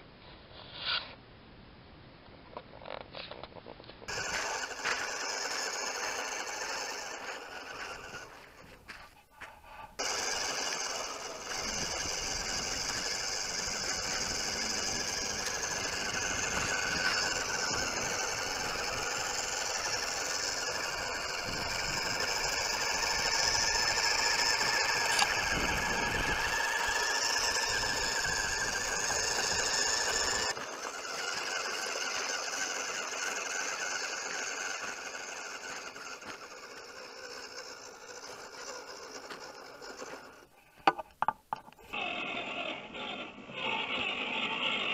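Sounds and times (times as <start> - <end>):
toy truck motor whining: 4.1 - 44.9.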